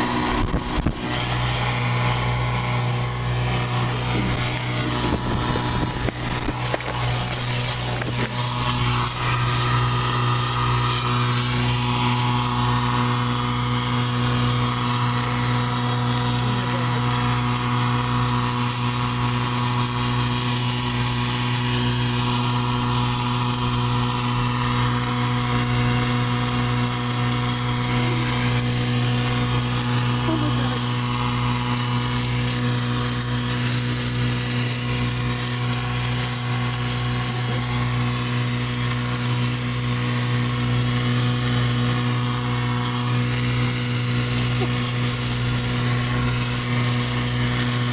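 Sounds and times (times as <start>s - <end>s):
machine hum with low throb: 0.0s - 47.9s.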